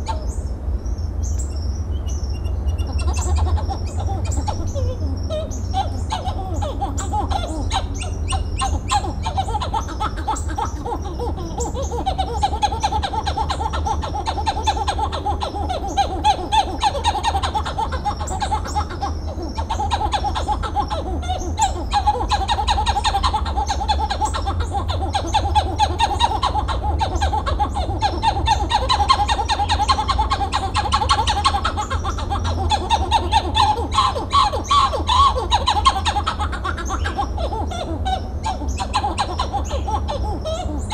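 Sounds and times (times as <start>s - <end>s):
monkey singing pulsed notes: 0.0s - 40.9s.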